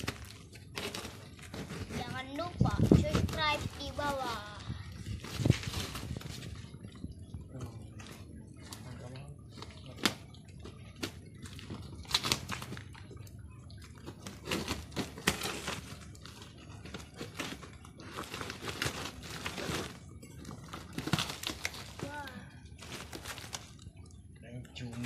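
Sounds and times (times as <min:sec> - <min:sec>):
packaging crinkling and rustling: 0:00.0 - 0:06.8, 0:08.0 - 0:24.0.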